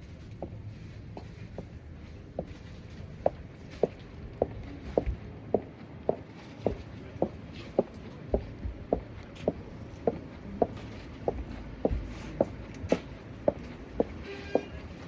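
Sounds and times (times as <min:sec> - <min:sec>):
heeled boots footsteps: 0:00.0 - 0:15.0.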